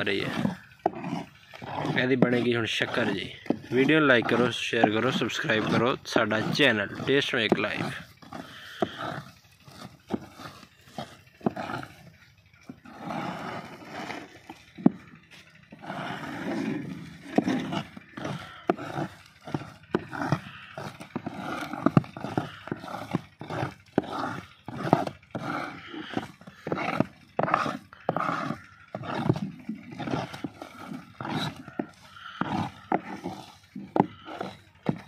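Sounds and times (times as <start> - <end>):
metal scraper scraping paste in tray: 0.0 - 35.0.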